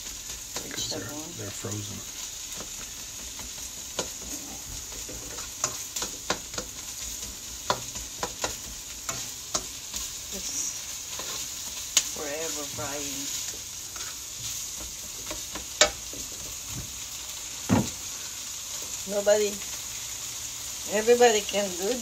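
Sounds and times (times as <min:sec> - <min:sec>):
food sizzling in wok: 0:00.0 - 0:22.0.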